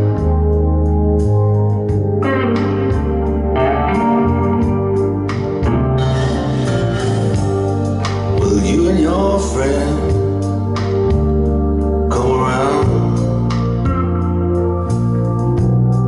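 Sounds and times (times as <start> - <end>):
organ-led music: 0.0 - 16.0
steady bass line: 0.0 - 16.0.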